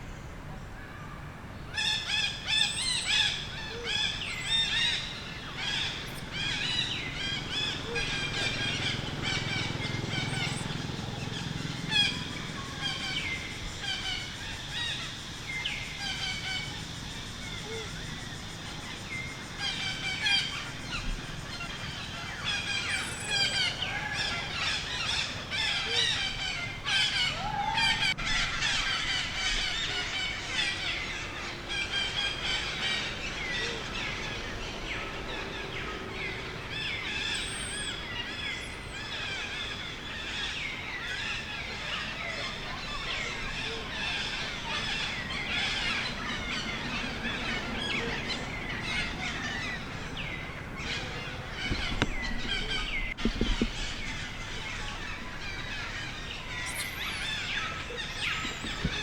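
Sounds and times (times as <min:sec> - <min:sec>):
small birds chirping: 0:01.7 - 0:59.0
high squealing bird calls: 0:01.8 - 0:36.0, 0:36.7 - 0:59.0.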